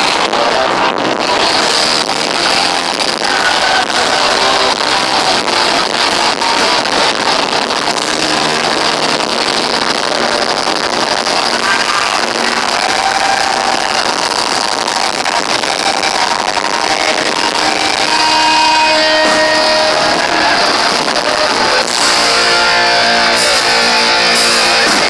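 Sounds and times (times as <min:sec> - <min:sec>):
heavy metal band playing live: 0:00.0 - 0:25.0.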